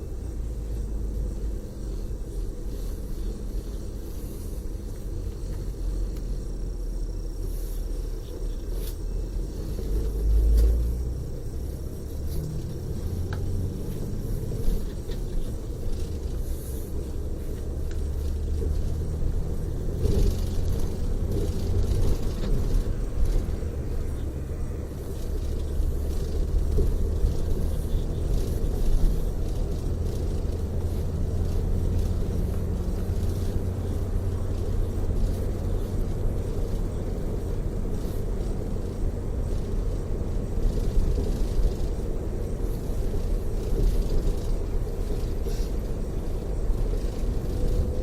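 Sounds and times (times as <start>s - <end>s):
coach engine rumble: 0.0s - 48.0s
tyres on the road: 0.0s - 48.0s.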